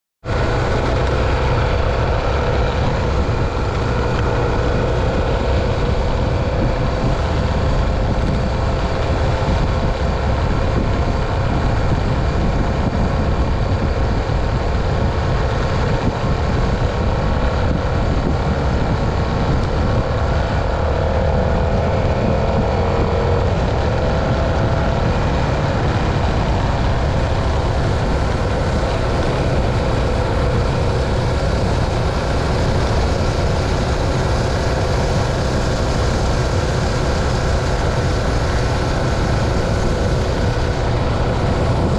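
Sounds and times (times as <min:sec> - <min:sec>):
motorcycle engine cruising: 0:00.2 - 0:41.9
wind rush on microphone: 0:00.2 - 0:41.9.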